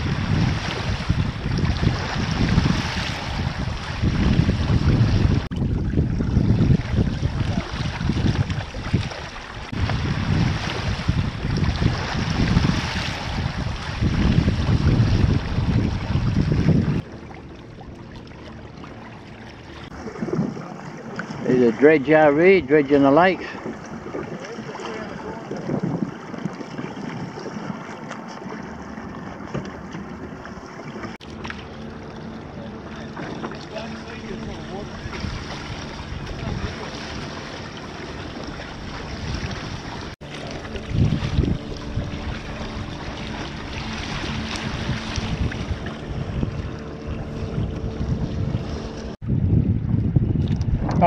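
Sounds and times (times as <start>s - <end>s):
wind buffeting microphone: 0.0s - 18.2s, 19.8s - 51.0s
water splashing along hull: 0.0s - 51.0s.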